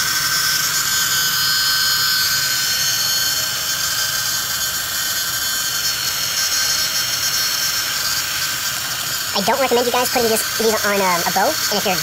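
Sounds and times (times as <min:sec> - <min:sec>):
fan motor whine: 0:00.0 - 0:12.0.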